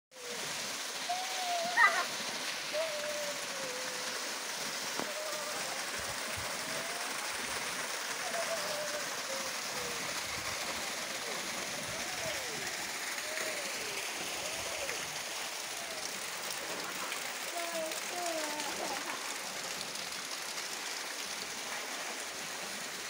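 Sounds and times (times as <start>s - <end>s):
water pouring from a pipe: 0.2s - 23.0s.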